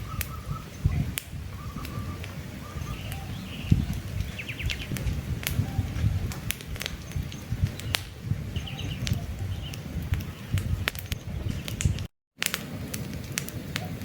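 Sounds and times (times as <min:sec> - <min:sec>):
small birds chirping: 0:00.0 - 0:12.1
campfire crackling and popping: 0:00.0 - 0:14.0
low flame rumble: 0:00.0 - 0:14.0.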